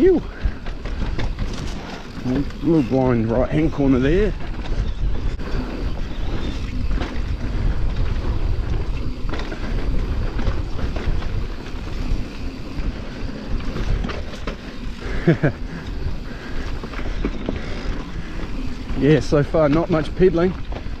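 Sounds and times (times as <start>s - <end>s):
bike clattering over bumps: 0.0s - 21.0s
tyres rumbling over dirt: 0.0s - 21.0s
wind buffeting microphone: 0.0s - 21.0s.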